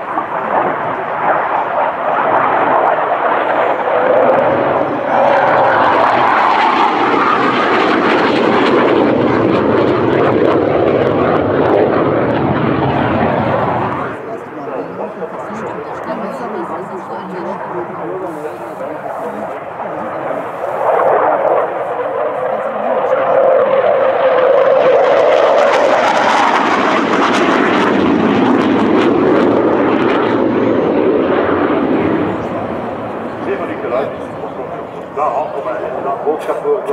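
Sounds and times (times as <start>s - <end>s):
jet aircraft flying past: 0.0s - 36.9s.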